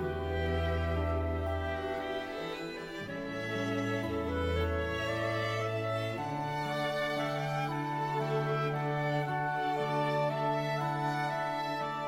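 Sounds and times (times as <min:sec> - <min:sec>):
slow bowed string music: 0:00.0 - 0:12.0.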